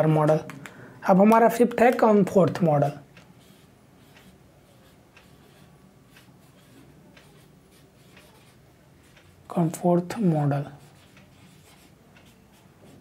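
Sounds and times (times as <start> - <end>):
marker pen writing on whiteboard: 1.8 - 13.0.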